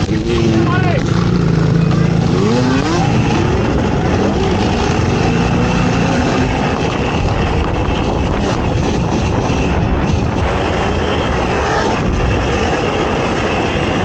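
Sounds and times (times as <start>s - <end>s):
atv engine running hard: 0.0s - 14.0s
steady rush of noise: 0.0s - 14.0s.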